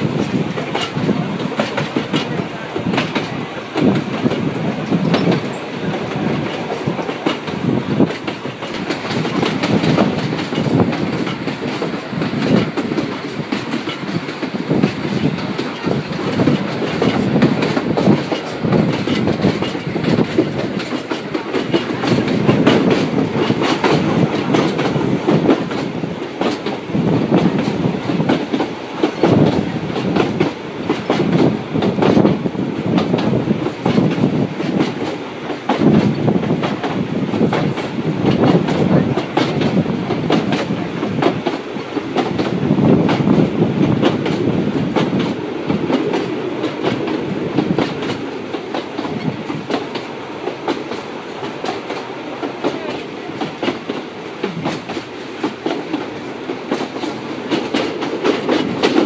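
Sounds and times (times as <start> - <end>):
clickety-clack over track: 0.0 - 59.0
train wheels rumbling on rails: 0.0 - 59.0.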